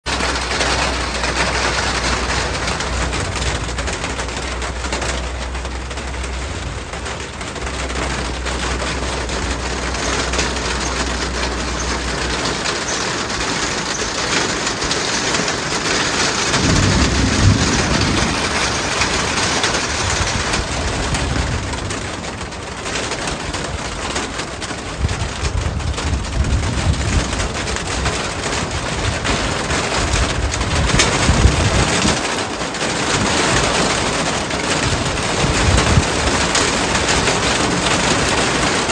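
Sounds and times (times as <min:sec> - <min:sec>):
rain: 0:00.0 - 0:38.9
wind: 0:00.0 - 0:38.9
low thunder rumbles: 0:00.1 - 0:38.9.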